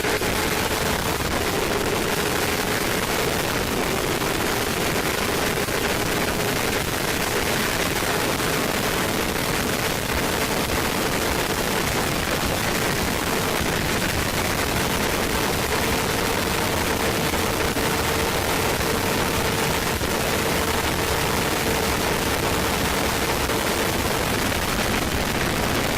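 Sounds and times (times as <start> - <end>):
motorcycle engine: 0.0 - 25.9.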